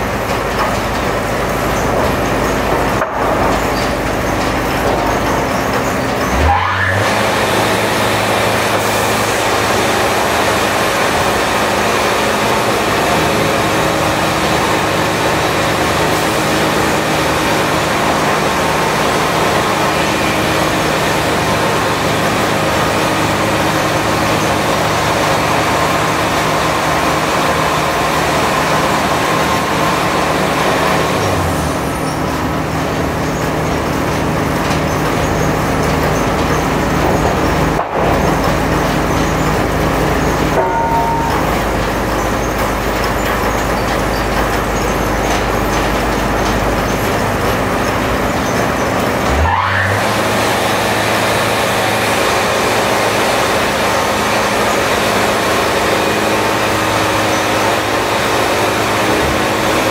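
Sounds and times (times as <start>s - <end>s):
sawmill engine hum: 0.0s - 59.9s.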